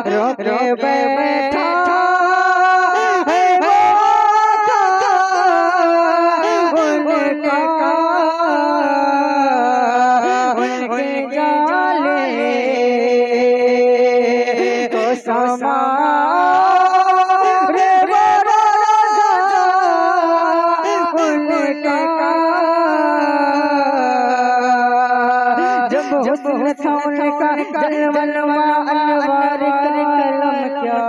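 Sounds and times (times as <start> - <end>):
man singing unaccompanied: 0.0 - 31.0.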